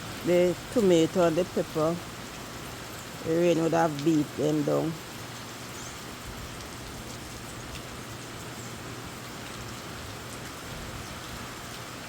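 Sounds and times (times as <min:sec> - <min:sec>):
steady rain shower: 0:00.0 - 0:12.0.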